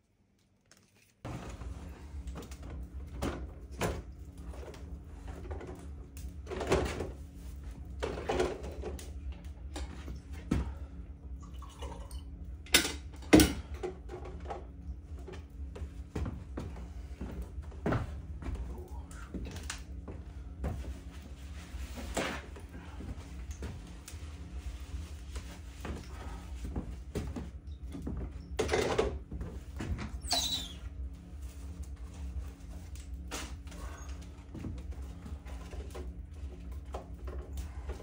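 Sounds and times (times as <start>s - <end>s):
steady low hum: 0.7s - 38.0s.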